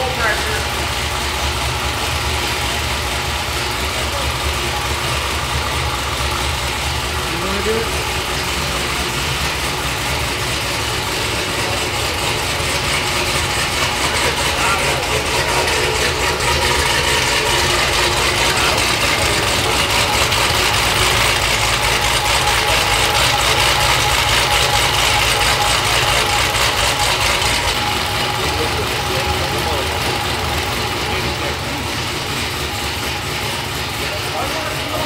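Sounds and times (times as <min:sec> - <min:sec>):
engine idling through exhaust: 0:00.0 - 0:35.0.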